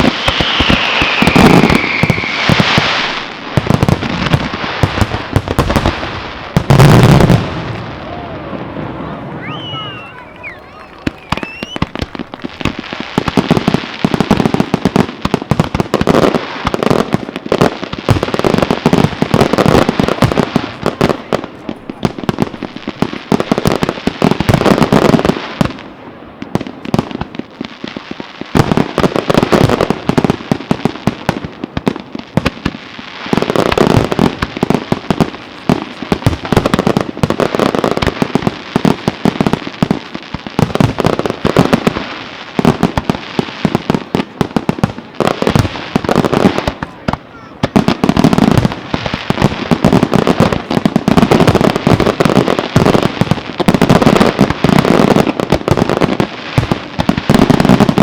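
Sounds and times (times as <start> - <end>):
fireworks bursts and bangs: 0.0 - 58.0.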